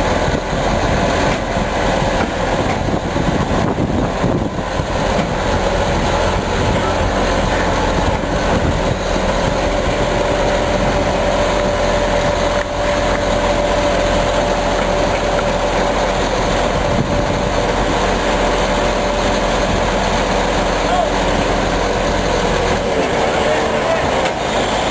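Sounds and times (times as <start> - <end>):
constant whine: 0.0 - 24.9
truck engine running: 0.0 - 24.9.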